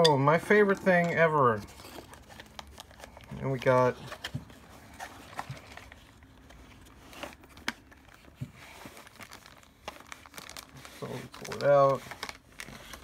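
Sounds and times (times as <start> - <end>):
plastic crinkling and rustling: 0.1 - 13.0.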